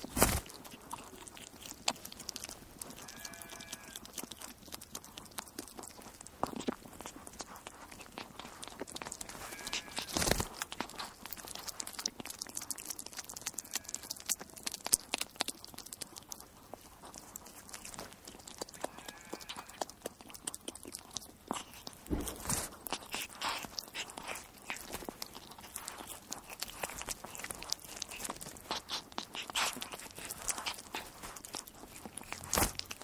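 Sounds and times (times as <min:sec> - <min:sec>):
weasel crunching and chewing: 0:00.0 - 0:33.0.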